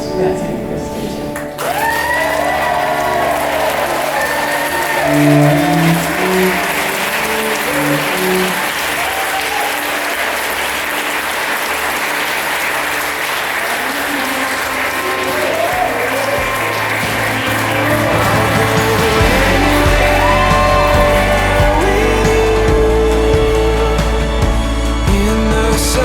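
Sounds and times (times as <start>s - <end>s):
music playing: 0.0s - 26.0s
crowd clapping: 1.3s - 26.0s.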